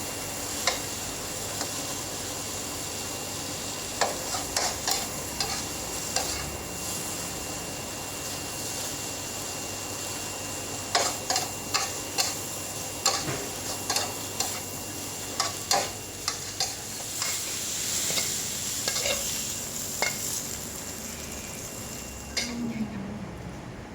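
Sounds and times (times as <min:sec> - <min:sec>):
food sizzling on a hot pan: 0:00.0 - 0:22.6.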